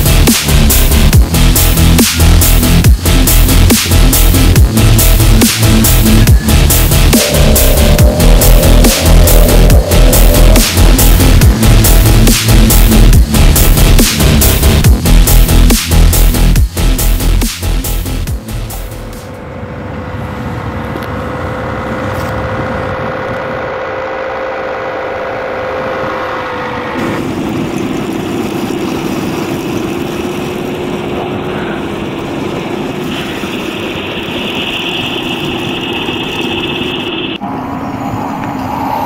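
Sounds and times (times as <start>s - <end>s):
electric fan humming drone: 0.0s - 39.0s
higher whine: 0.0s - 39.0s.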